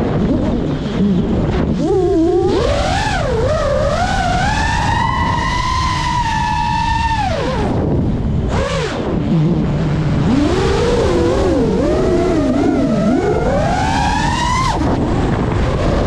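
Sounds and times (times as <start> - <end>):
drone motors whining: 0.0 - 16.0
low rumble: 0.0 - 16.0.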